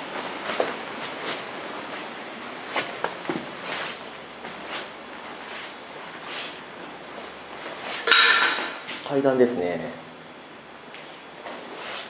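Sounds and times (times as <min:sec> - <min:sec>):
slow footsteps: 0:00.0 - 0:09.1, 0:10.8 - 0:12.0
steady background hiss: 0:00.0 - 0:12.0.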